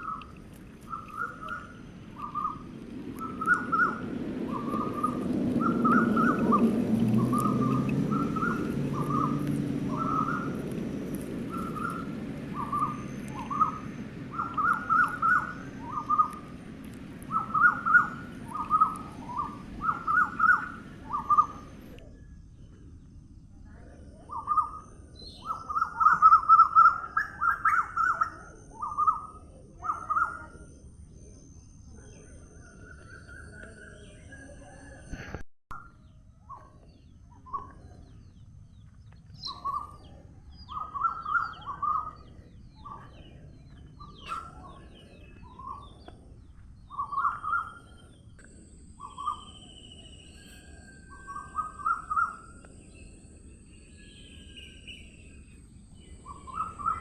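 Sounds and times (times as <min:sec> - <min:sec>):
birds calling: 0:00.0 - 0:22.1, 0:24.3 - 0:30.6, 0:32.1 - 0:57.0.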